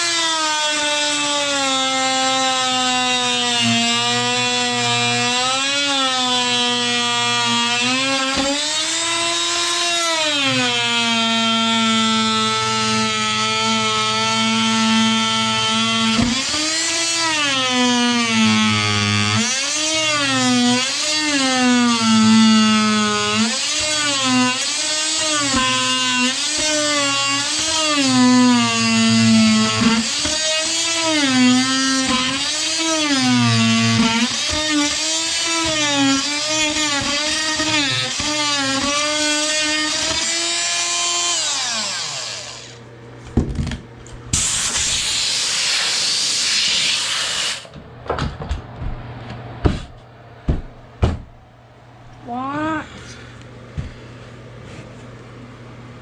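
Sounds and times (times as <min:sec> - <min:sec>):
power tool motor whining: 0:00.0 - 0:42.8, 0:44.4 - 0:47.7.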